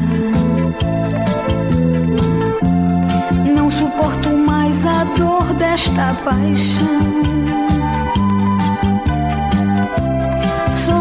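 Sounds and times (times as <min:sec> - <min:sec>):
bass line with steady beat: 0:00.0 - 0:11.0.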